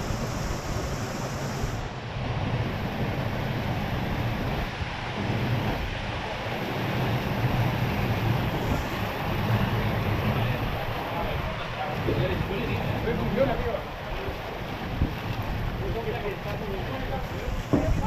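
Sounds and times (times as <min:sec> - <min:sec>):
sea surf rushing: 0:00.0 - 0:18.0
wind buffeting microphone: 0:00.0 - 0:18.0.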